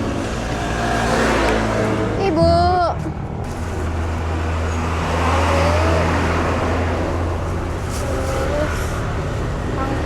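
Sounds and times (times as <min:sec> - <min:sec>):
road rushing noise: 0:00.0 - 0:10.0.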